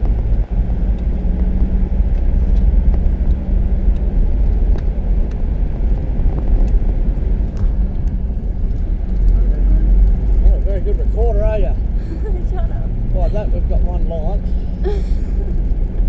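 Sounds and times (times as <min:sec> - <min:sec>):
faint engine hum: 0:00.0 - 0:16.0
vehicle low rumble: 0:00.0 - 0:16.0.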